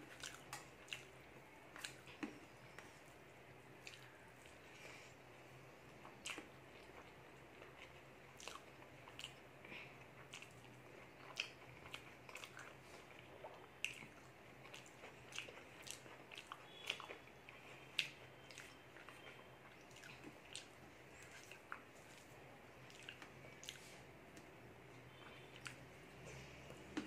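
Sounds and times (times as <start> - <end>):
person chewing: 0.0 - 2.9, 3.8 - 5.2, 5.9 - 24.5, 25.1 - 27.0.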